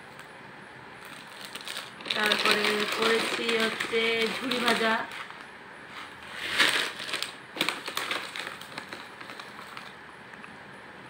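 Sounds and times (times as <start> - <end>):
plastic packets rustling: 1.0 - 10.0.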